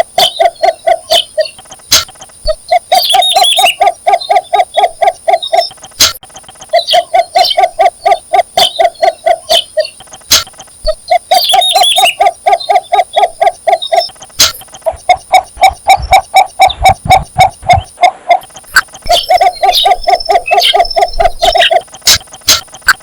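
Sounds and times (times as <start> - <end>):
bird higher chirps: 0.0 - 23.0
bird low rapid clucking: 0.0 - 23.0.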